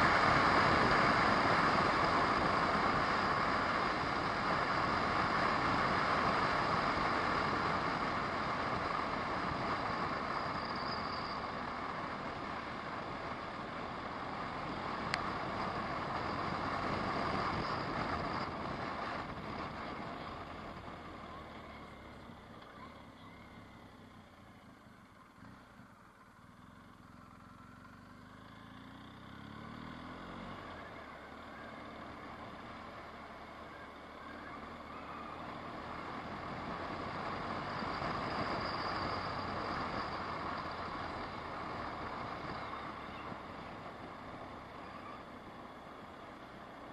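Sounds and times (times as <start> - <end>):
car engine and tyre noise: 0.0 - 46.9.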